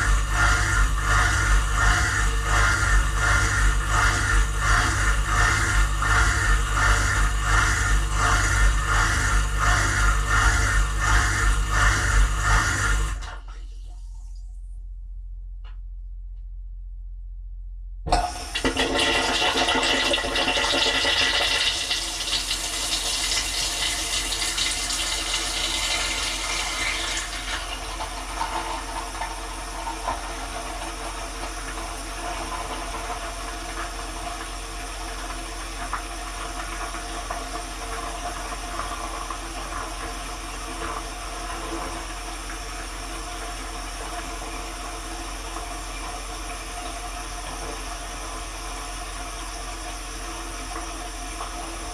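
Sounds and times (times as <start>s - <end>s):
dishwasher pump hum: 0.0s - 14.2s, 18.1s - 51.9s.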